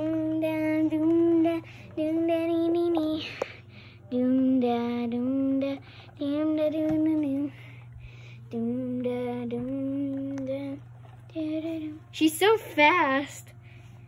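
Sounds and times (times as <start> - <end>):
girl singing long notes: 0.0 - 12.1.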